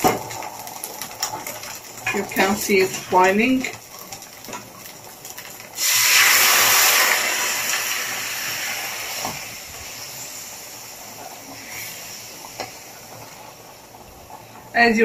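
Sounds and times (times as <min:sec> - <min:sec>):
loud sizzling hiss: 0:00.0 - 0:15.0.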